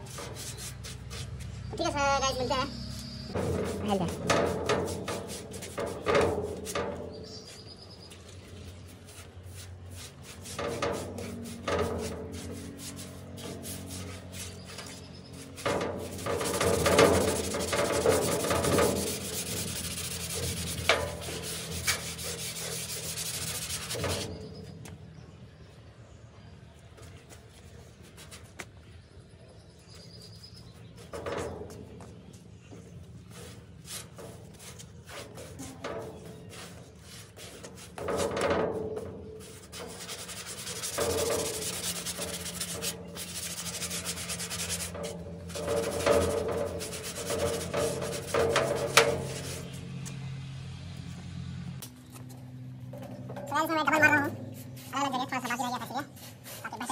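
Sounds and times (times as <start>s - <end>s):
paintbrush scrubbing on metal: 0.0s - 25.2s, 30.2s - 50.1s, 52.9s - 56.9s.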